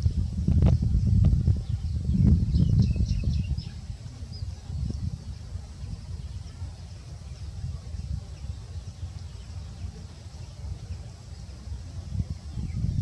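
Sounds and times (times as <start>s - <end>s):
wind rumble on microphone: 0.0s - 13.0s
faint high chirping: 1.5s - 13.0s.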